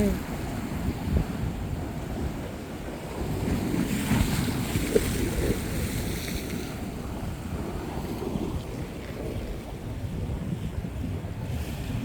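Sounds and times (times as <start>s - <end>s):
surf washing on beach: 0.0s - 12.0s
wind buffeting microphone: 0.0s - 12.0s.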